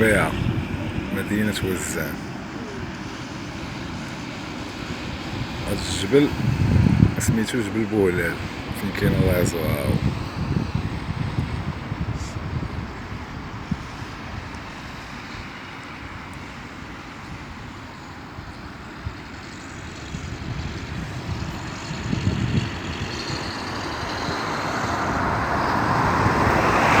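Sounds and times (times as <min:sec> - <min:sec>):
road traffic noise: 0:00.0 - 0:27.0
wind rumbling on microphone: 0:00.0 - 0:27.0.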